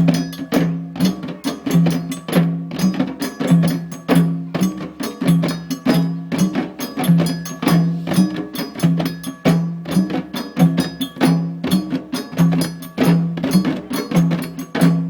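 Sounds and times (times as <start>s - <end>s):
djembe hand drumming: 0.0s - 15.0s.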